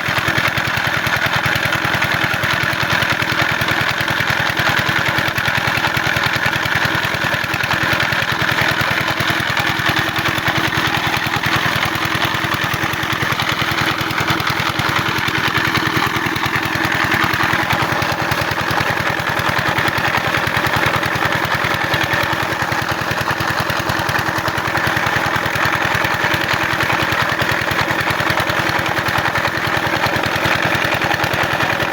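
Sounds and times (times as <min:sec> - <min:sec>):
diesel pump engine running: 0:00.0 - 0:31.9.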